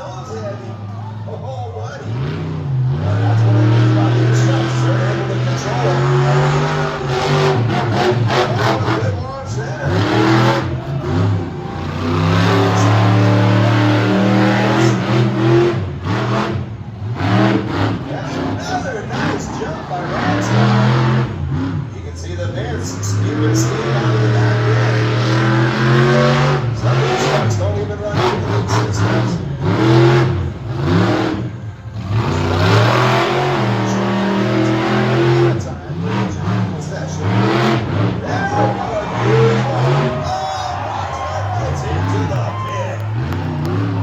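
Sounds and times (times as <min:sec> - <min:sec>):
monster truck engine revving: 0:00.0 - 0:44.0.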